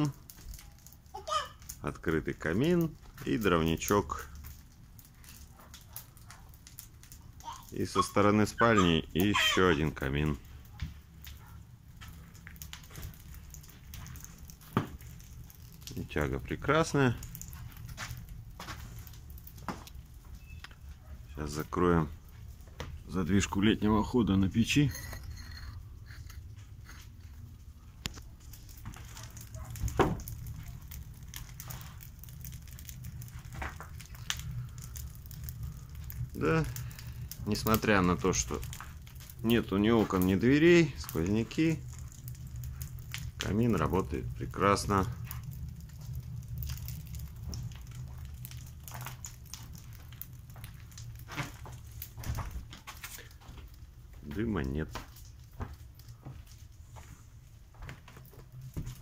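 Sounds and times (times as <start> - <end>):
wood fire crackling: 0.0 - 59.0
low rumble of draught: 10.4 - 59.0.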